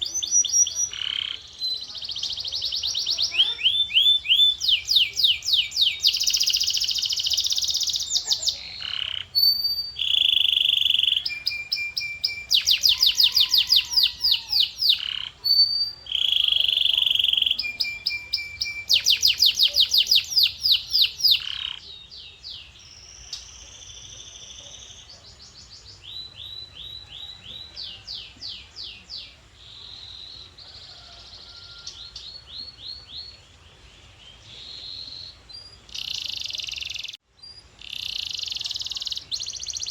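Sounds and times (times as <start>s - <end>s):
canary singing: 0.0s - 33.4s, 34.4s - 39.9s.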